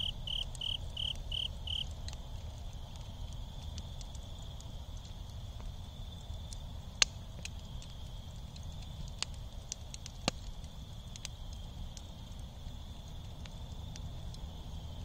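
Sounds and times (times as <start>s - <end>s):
embers crackling and popping: 0.0s - 15.0s.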